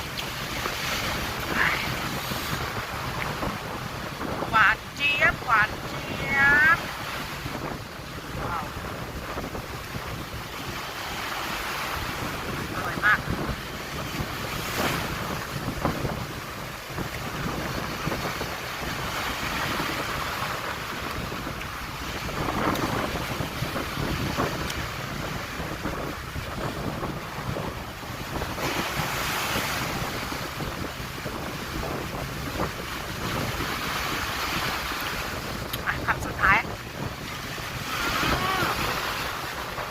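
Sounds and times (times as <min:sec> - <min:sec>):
sea waves washing: 0:00.0 - 0:39.9
wind buffeting microphone: 0:00.0 - 0:39.9.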